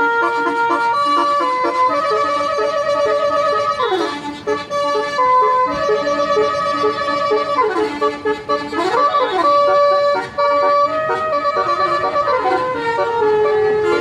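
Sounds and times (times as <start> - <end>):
bus horn playing a tune: 0.0 - 14.0.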